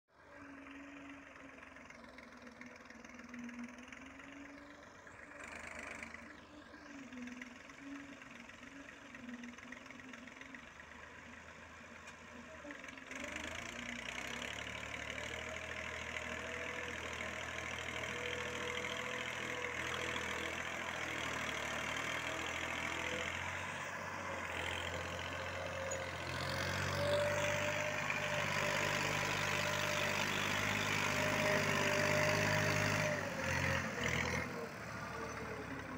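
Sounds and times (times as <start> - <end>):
tractor diesel engine running: 0.1 - 35.9.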